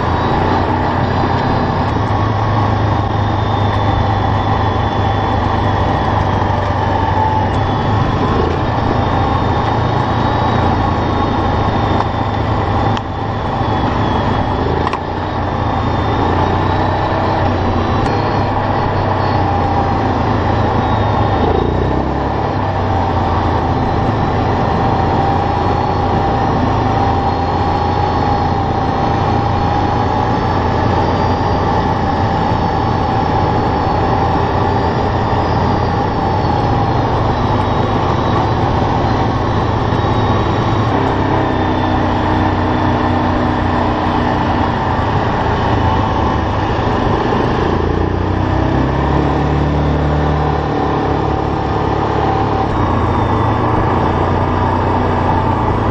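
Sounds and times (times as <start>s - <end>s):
quad bike engine running: 0.0s - 55.9s
steady whine: 0.0s - 55.9s.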